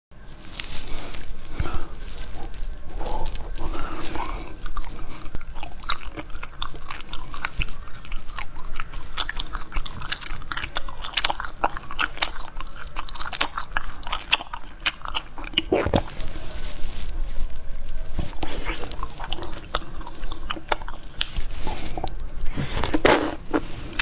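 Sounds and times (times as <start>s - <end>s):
jelly chewing mouth sounds: 0.3s - 24.0s.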